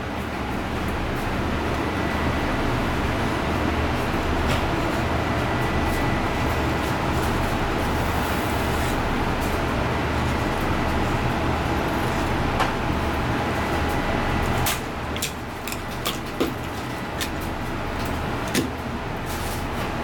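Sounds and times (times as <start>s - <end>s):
background hum and rushing noise: 0.0s - 20.0s.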